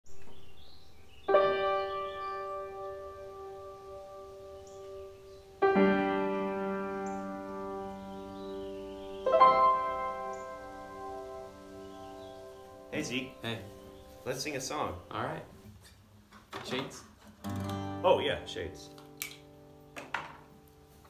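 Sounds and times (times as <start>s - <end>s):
piano chords: 0.1s - 15.7s, 17.6s - 21.0s.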